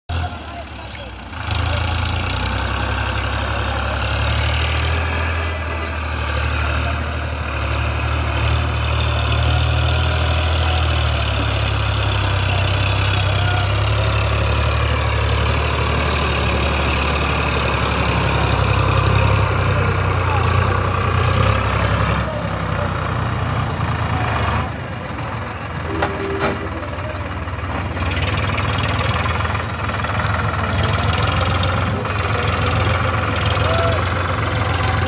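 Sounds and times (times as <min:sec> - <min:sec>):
tractor diesel engine running: 0:00.1 - 0:35.0.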